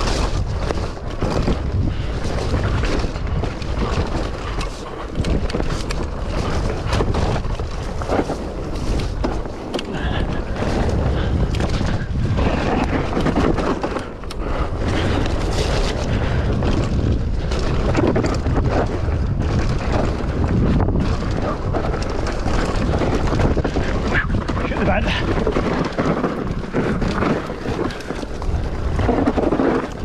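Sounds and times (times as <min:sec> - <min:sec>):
bike knocking and rattling: 0:00.0 - 0:30.0
tyres rolling on dirt: 0:00.0 - 0:30.0
wind rushing over microphone: 0:00.0 - 0:30.0.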